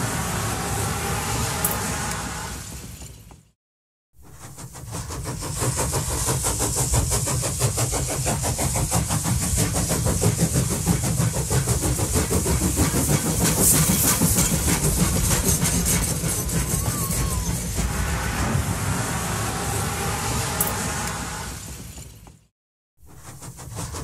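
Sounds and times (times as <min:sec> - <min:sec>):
train carriages and wheels rattling: 0:00.0 - 0:03.5, 0:04.2 - 0:22.5.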